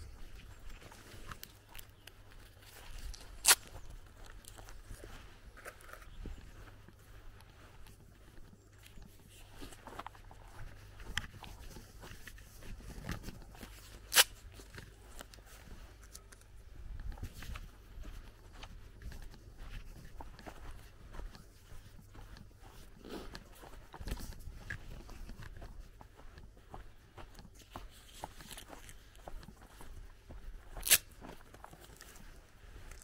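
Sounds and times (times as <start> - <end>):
footsteps on grass: 0.0 - 33.0.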